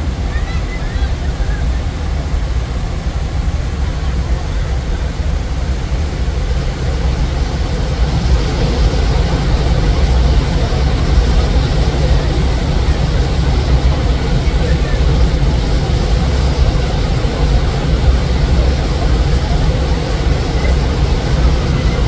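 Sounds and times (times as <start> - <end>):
waterfall rushing water: 0.0 - 22.0.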